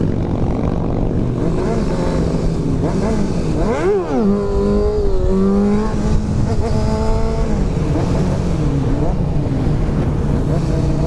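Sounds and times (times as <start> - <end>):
motorcycle engine revving: 0.0 - 11.0
wind rush: 0.0 - 11.0.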